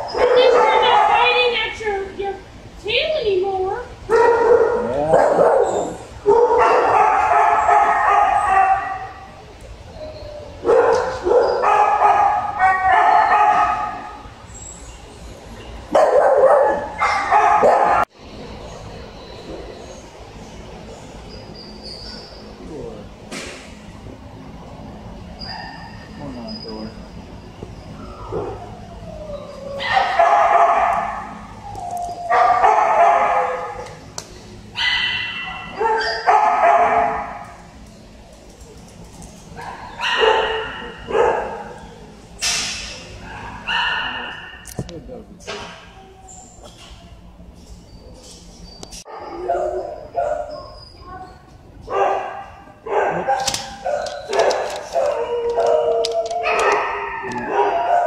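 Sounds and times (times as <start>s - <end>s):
dogs barking and yipping: 0.0s - 2.0s, 4.0s - 22.6s, 25.0s - 44.7s, 45.4s - 58.0s.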